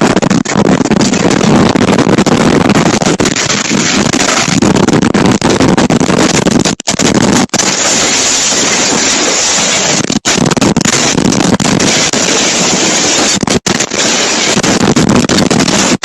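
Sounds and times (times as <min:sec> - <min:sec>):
crackling storm noise: 0:00.0 - 0:16.0.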